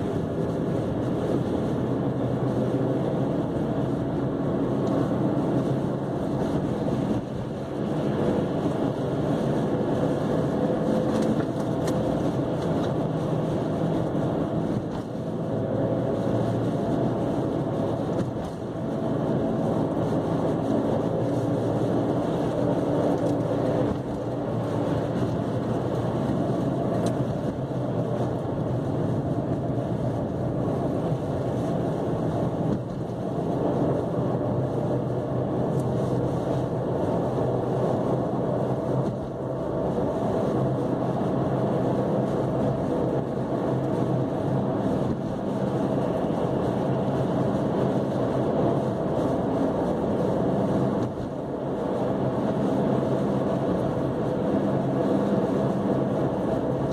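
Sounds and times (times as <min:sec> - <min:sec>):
car engine humming: 0:00.0 - 0:56.9
tyres on snowy road: 0:00.0 - 0:56.9.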